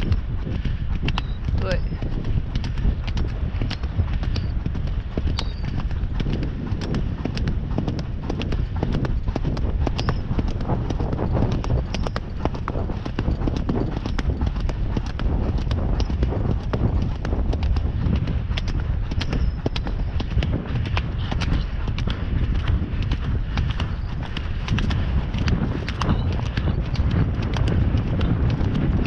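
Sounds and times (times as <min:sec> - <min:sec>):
horse hoofbeats: 0:00.0 - 0:29.0
low rumble: 0:00.0 - 0:29.0.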